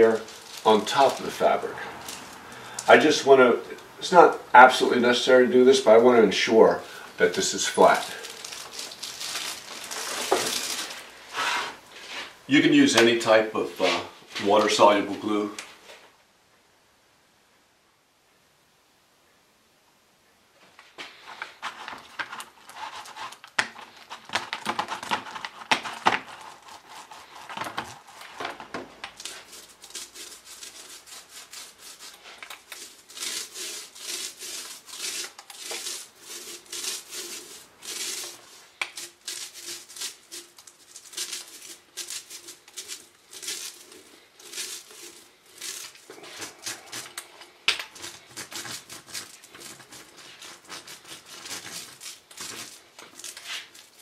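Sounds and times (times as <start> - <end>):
paint roller wet rubbing strokes: 0.0 - 14.8, 21.2 - 28.4, 29.1 - 54.0.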